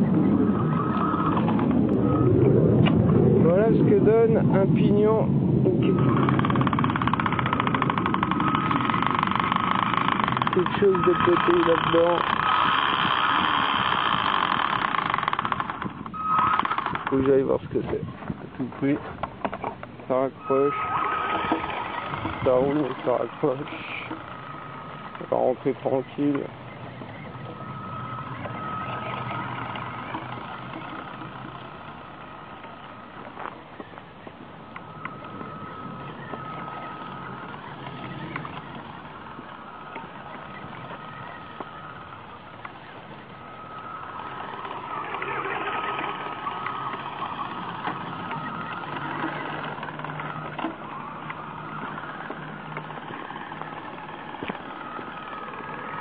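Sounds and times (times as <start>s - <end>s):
drivetrain whining and rumbling: 0.0s - 56.0s
low hum: 0.0s - 56.0s
gear clicking and knocking: 5.9s - 17.5s, 20.9s - 56.0s.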